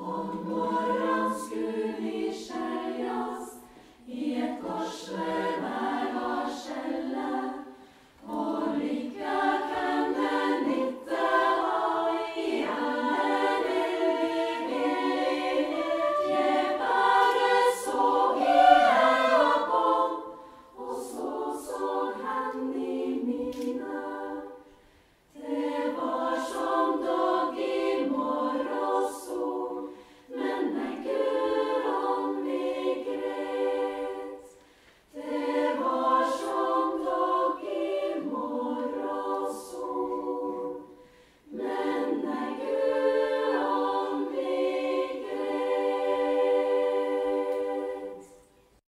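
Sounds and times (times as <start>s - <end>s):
female choir singing: 0.0s - 48.8s.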